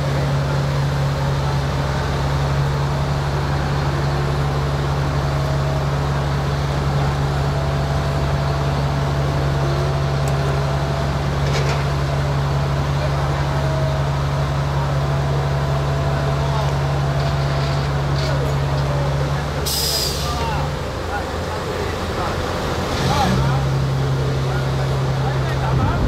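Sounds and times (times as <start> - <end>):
heavy engine droning: 0.0 - 26.0.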